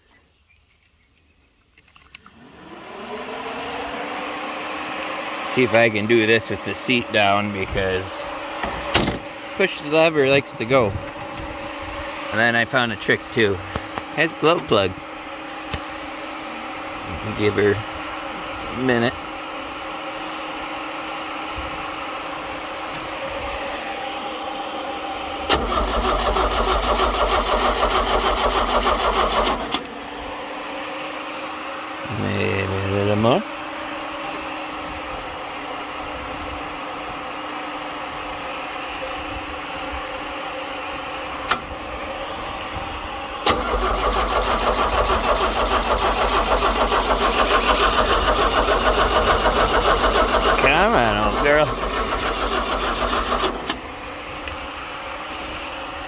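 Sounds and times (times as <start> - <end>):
steady background hum: 1.5 - 56.0
starter cranking diesel engine: 2.4 - 33.5, 41.2 - 56.0.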